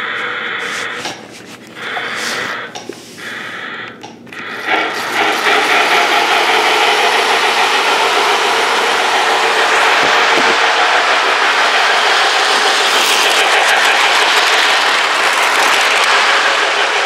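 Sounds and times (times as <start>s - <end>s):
model train whirring: 0.0s - 17.0s.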